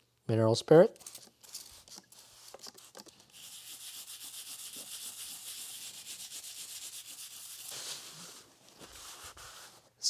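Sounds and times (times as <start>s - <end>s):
brush scrubbing metal: 1.0s - 9.8s.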